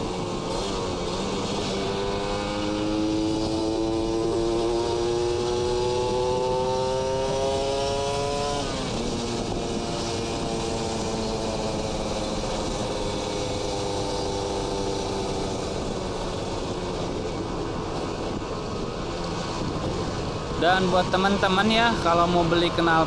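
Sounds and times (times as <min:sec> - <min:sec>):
motorcycle engine under throttle: 0:00.0 - 0:22.8.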